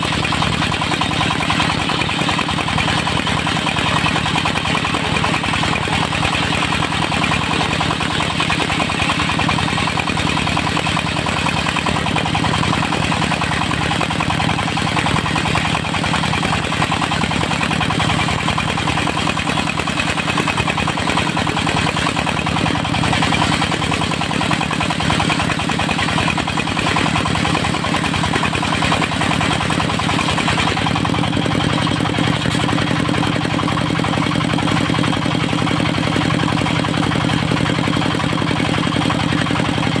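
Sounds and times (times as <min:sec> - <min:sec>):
sawmill engine running: 0:00.0 - 0:40.0.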